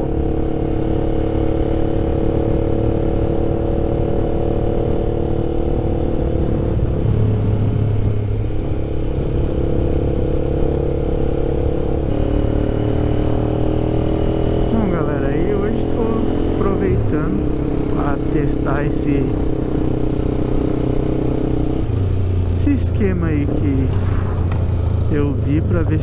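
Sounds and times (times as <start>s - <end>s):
motorcycle engine rumble: 0.0s - 26.0s.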